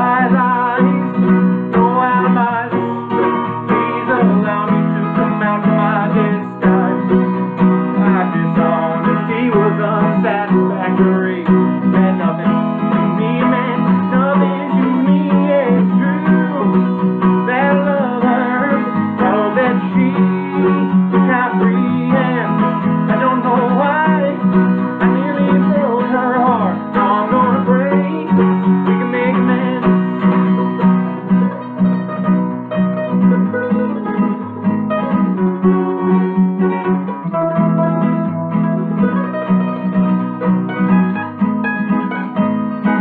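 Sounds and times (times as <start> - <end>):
acoustic guitar strumming chords: 0.0 - 43.0
guitar picking lead lines: 0.0 - 43.0.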